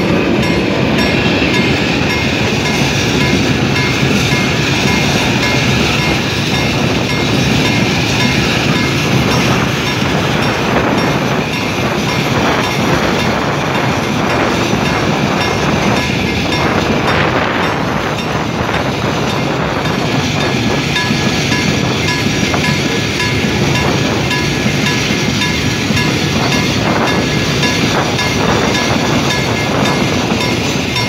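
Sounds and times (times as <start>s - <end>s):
crossing bell ringing: 0.0s - 31.0s
train wheels rumbling on rails: 0.0s - 31.0s.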